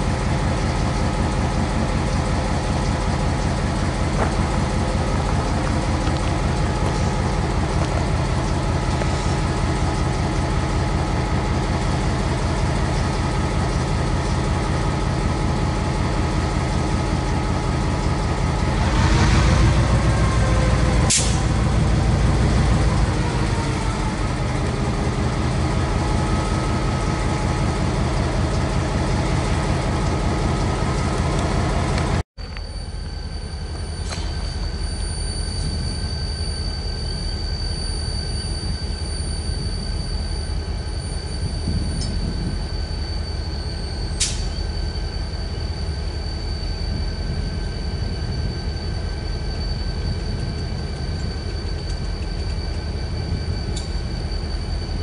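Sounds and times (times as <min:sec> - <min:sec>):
diesel locomotive engine rumble: 0:00.0 - 0:55.0
distant locomotive rumble: 0:00.0 - 0:55.0
steady high whine: 0:00.0 - 0:55.0.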